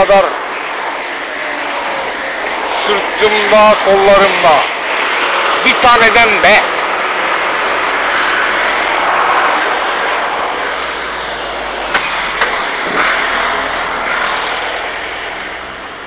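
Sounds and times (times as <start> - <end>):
vehicle passing: 0.2 - 16.0.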